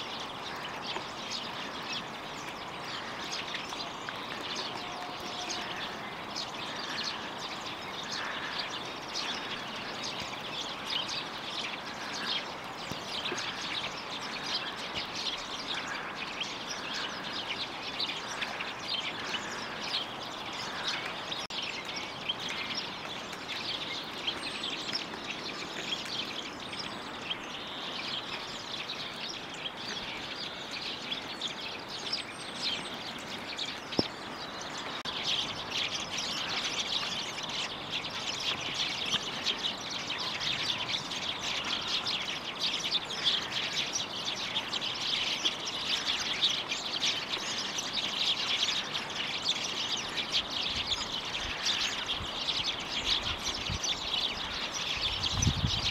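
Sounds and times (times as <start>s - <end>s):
songbirds chirping: 0.0s - 55.9s.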